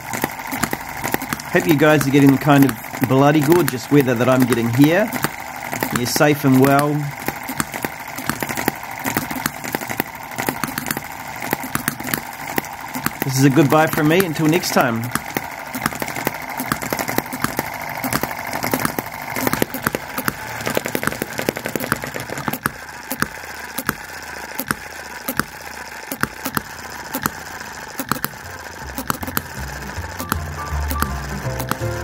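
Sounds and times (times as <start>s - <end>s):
small engine firing pops: 0.0s - 32.0s.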